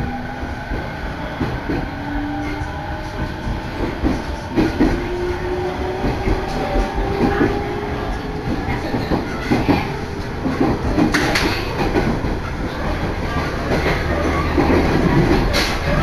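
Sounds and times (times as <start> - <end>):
train running rumble: 0.0 - 16.0
wheels clacking over rail joints: 0.7 - 16.0.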